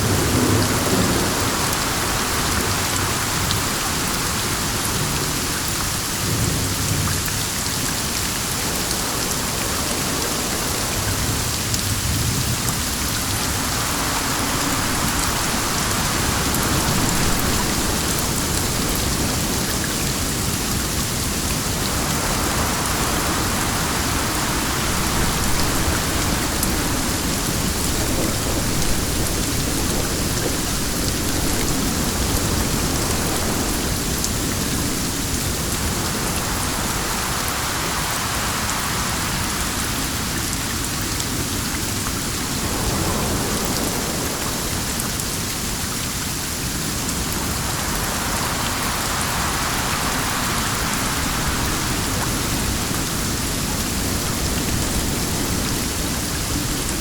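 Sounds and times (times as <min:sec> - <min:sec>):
dense rain: 0:00.0 - 0:57.0
wind: 0:00.0 - 0:57.0.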